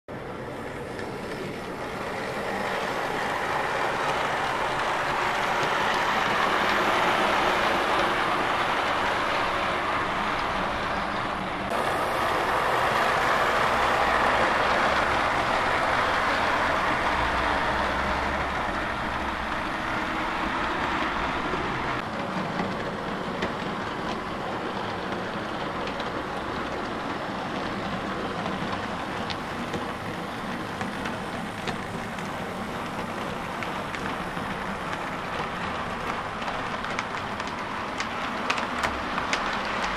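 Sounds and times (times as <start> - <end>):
model train running on rails: 0.1 - 39.9.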